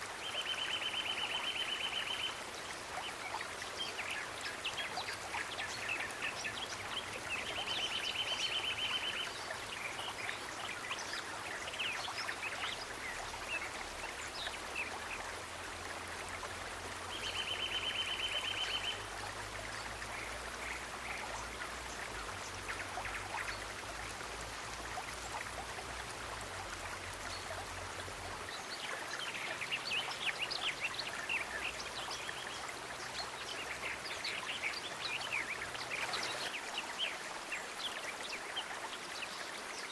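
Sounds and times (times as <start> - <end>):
trickling water: 0.0 - 39.9
water drips and splashes: 0.0 - 39.9.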